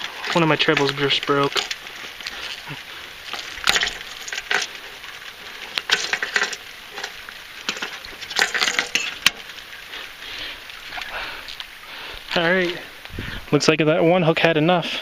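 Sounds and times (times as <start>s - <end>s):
rain hissing: 0.0s - 13.9s.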